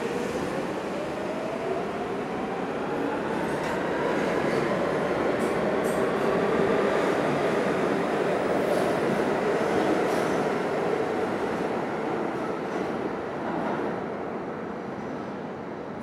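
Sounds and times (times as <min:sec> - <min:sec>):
subway train rolling past: 0:00.0 - 0:16.0.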